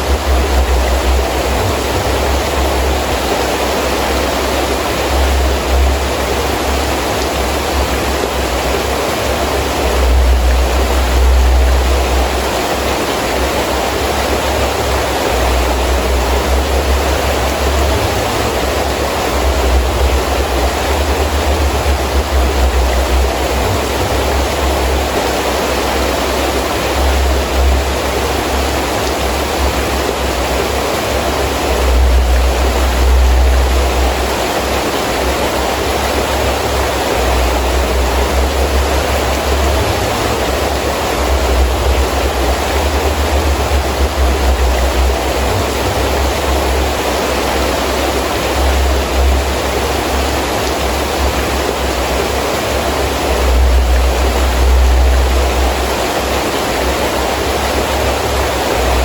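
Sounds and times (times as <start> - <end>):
heavy rain falling: 0.0 - 59.0
wind gusting with low rumble: 0.0 - 59.0.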